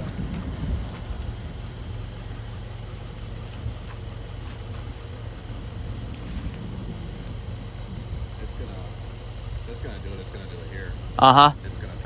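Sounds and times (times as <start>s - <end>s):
crickets chirping: 0.0s - 12.0s
high insect trill: 0.0s - 12.0s
steady low rumble: 0.0s - 12.0s.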